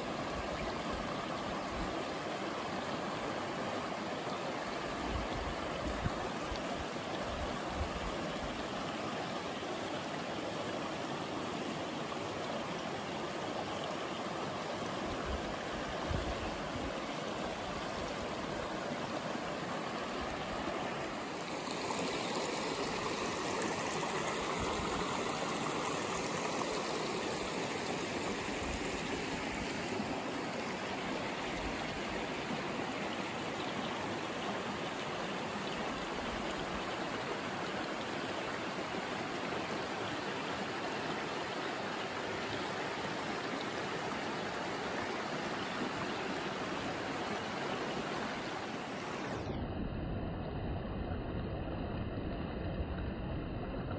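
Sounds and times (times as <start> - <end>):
creek water rushing over stones: 0.0 - 49.6.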